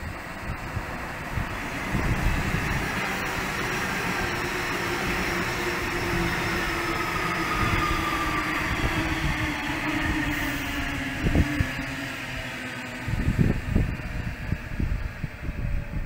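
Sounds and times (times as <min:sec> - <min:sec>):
train motor whine: 0:00.0 - 0:16.0
train wheels rumbling on rail: 0:00.0 - 0:16.0.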